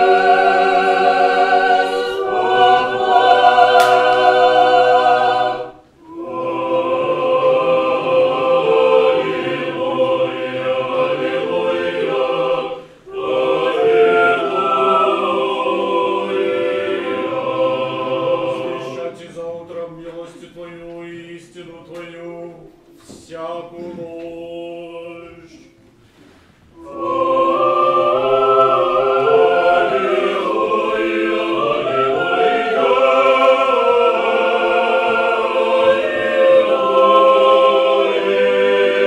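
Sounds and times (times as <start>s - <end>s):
choir chanting a cappella: 0.0s - 25.9s, 26.7s - 39.0s.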